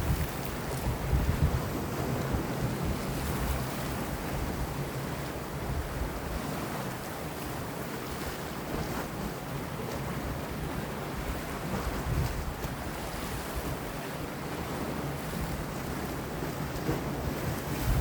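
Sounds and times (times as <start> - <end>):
sea waves washing against rocks: 0.0 - 18.0
wind blowing over water: 0.0 - 18.0.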